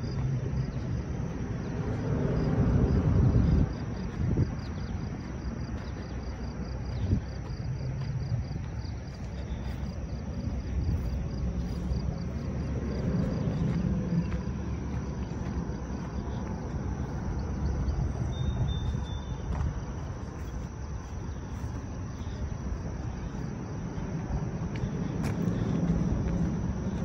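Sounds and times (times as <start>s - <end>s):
insects chirping: 0.0s - 27.0s
steady low rumble: 0.0s - 27.0s.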